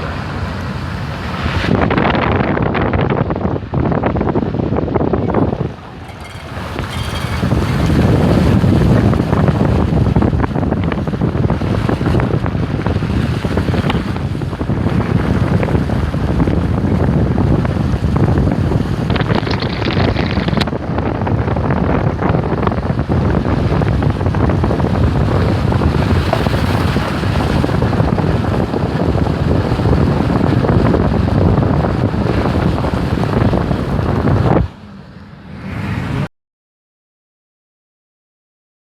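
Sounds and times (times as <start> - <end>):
wind buffeting microphone: 0.0 - 36.3.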